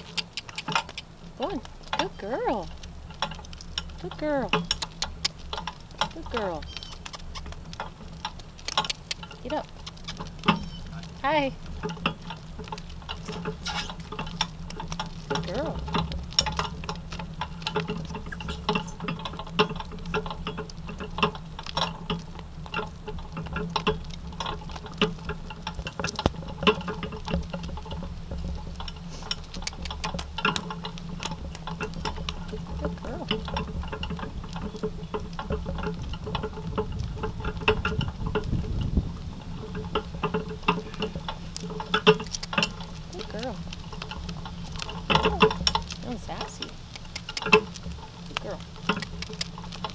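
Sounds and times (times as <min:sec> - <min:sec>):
donkey hooves clopping on asphalt: 0:00.0 - 0:49.9
low hum: 0:00.0 - 0:49.9.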